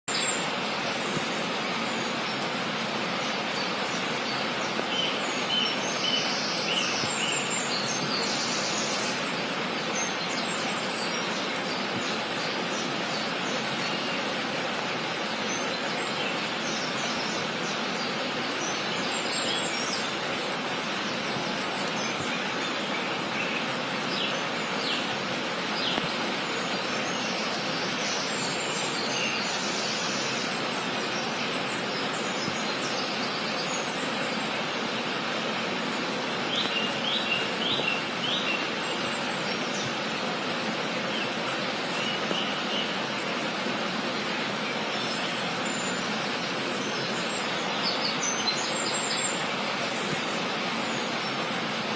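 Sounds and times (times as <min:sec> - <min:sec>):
birds chirping: 0:00.1 - 0:51.9.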